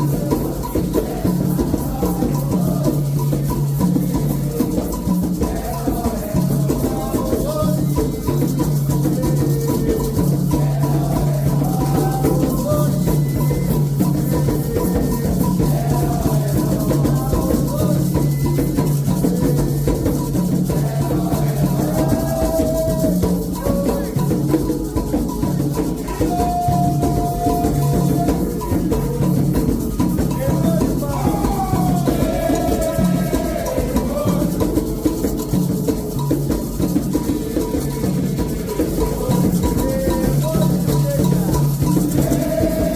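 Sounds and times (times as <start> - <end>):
hand drums playing rhythm: 0.0 - 42.9
people singing: 0.0 - 42.9
shaken rattle: 0.0 - 42.9.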